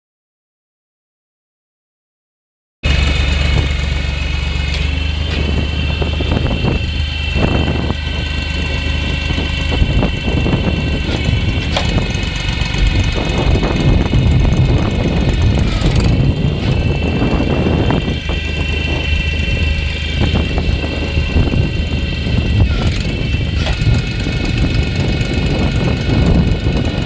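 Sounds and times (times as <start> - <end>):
hydraulic pump whine: 2.8 - 27.0
tractor engine running: 2.8 - 27.0.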